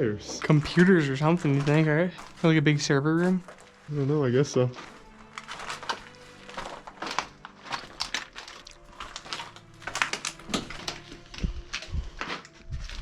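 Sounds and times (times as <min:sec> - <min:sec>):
footsteps crunching over debris: 0:00.0 - 0:13.0.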